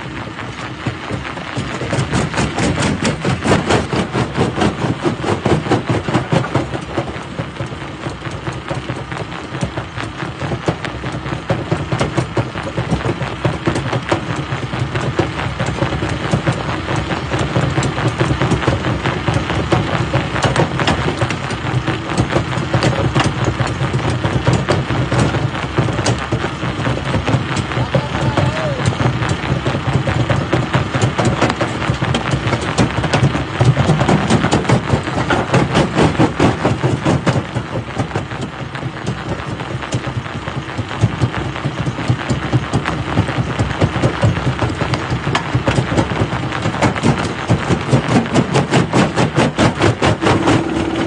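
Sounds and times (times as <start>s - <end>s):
engine drone: 0.0s - 51.0s.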